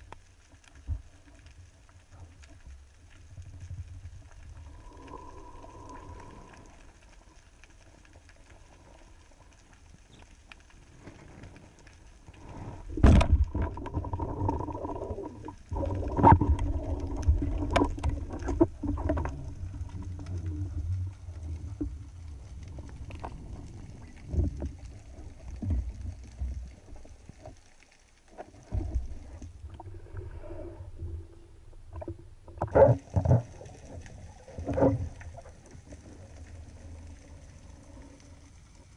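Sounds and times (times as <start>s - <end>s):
muffled underwater water rush: 0.0s - 38.9s.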